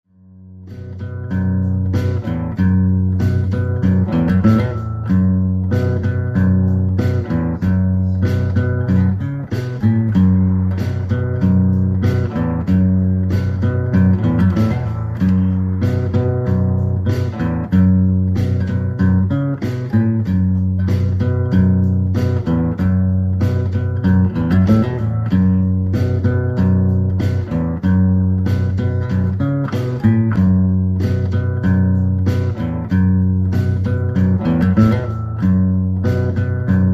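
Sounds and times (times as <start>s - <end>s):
guitar instrumental music: 0.1s - 36.9s.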